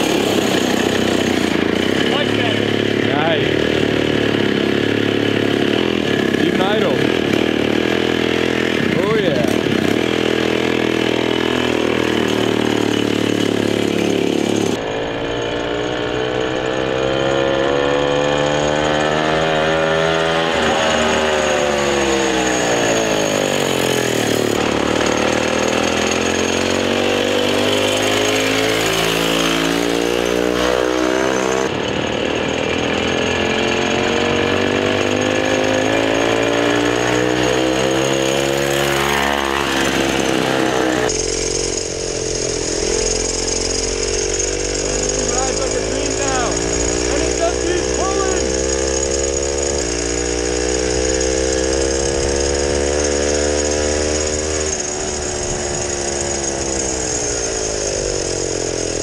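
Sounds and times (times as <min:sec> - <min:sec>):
two-stroke minibike engine revving: 0:00.0 - 0:59.0.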